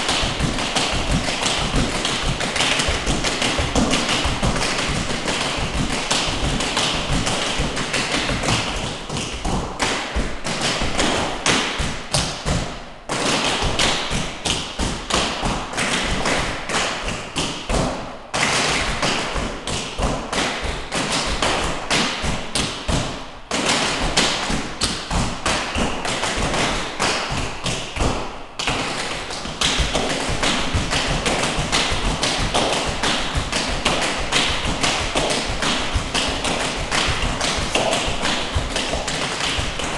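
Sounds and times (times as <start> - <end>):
tap shoes on studio floor: 0.0 - 39.9.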